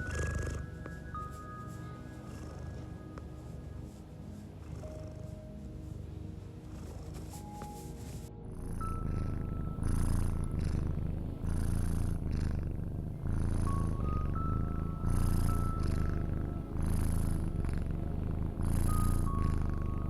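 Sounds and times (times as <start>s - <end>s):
cat purring: 0.0s - 20.0s
soft sustained music notes: 0.0s - 20.0s.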